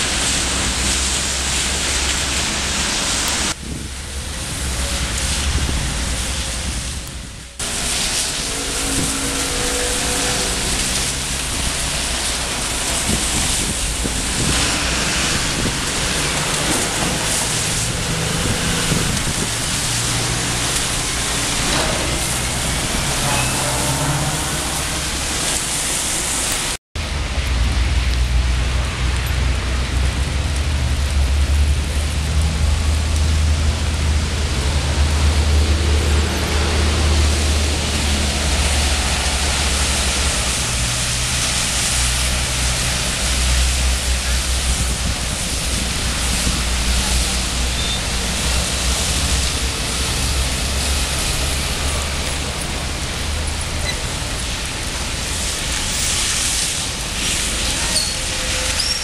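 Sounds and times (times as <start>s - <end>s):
passing vehicles: 0.0s - 59.0s
steady rain: 0.0s - 59.0s
tyres hissing on wet road: 0.0s - 59.0s.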